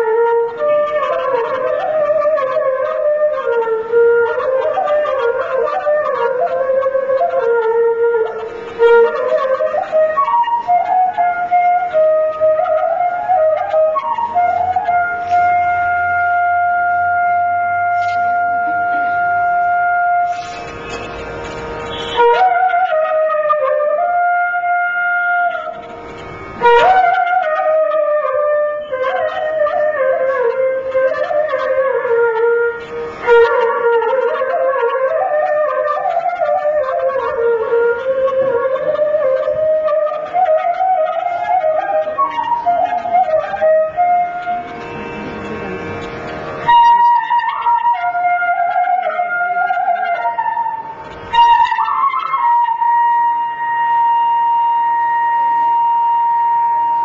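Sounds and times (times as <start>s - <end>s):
solo flute melody: 0.0s - 57.0s.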